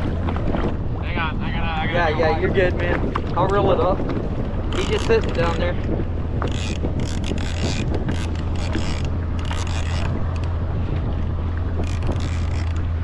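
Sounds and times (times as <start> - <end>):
water splashing against hull: 0.0 - 13.0
wind buffeting microphone: 0.0 - 13.0.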